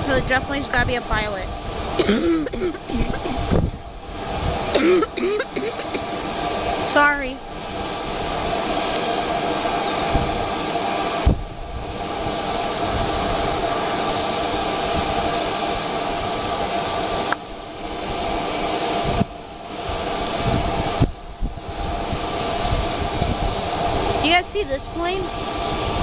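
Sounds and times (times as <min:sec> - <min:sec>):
jet engine hiss and whine: 0:00.0 - 0:26.0.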